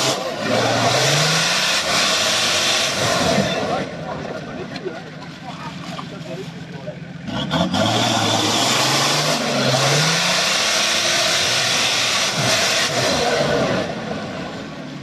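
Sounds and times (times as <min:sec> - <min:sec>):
diesel engine revving hard: 0:00.0 - 0:04.4, 0:07.0 - 0:15.0.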